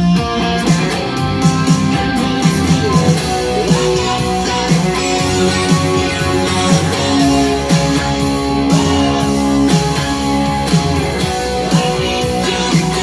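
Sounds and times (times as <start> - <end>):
electric guitar rock rhythm: 0.0 - 13.0.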